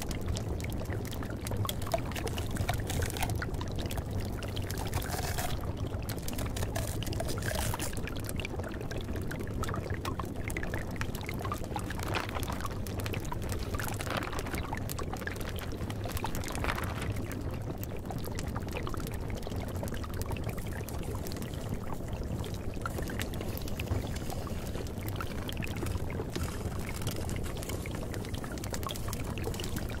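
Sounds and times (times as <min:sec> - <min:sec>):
water flowing and trickling: 0:00.0 - 0:30.0.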